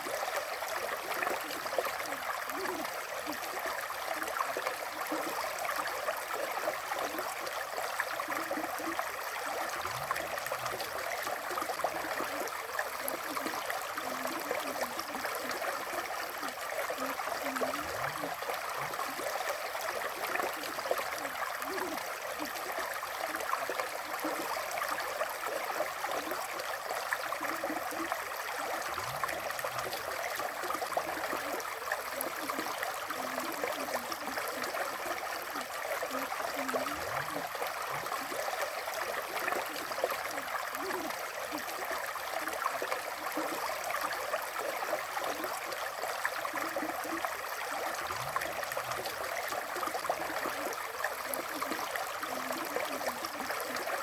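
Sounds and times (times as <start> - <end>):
river water flowing: 0.0 - 54.0
water gurgling: 0.0 - 54.0.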